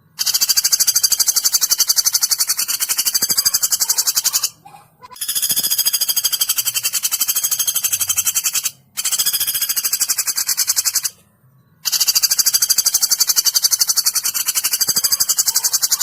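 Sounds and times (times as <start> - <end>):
woodpecker rattling trill: 0.0 - 11.2, 11.8 - 16.0.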